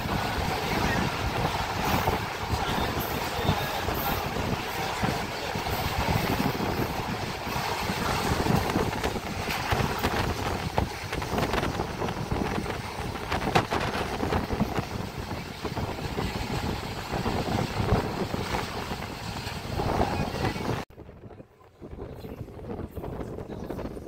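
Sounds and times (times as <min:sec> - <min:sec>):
train wheels rumbling on rails: 0:00.0 - 0:20.9
wind across microphone: 0:00.0 - 0:24.0.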